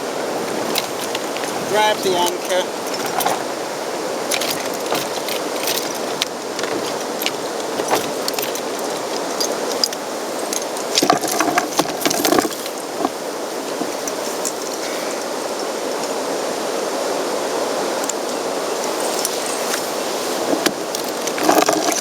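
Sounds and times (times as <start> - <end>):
background hiss: 0.0 - 22.0
metal anchor clinking and rattling: 0.5 - 3.6, 4.2 - 15.7, 19.0 - 22.0.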